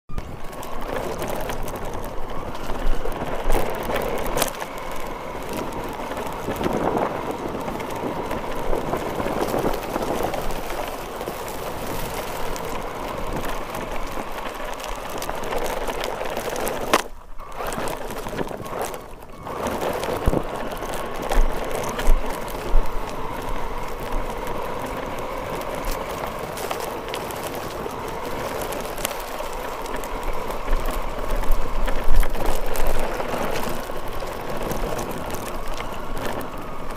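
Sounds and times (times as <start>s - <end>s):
rc car motor whine: 0.1s - 36.9s
wheels rattling on rough ground: 0.1s - 36.9s.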